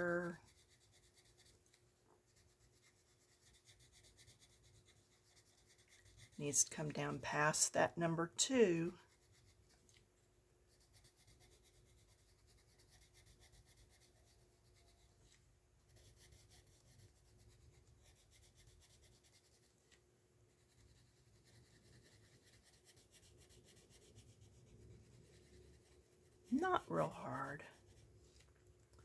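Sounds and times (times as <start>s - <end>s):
pencils scratching on paper: 0.0s - 9.8s, 10.6s - 28.6s.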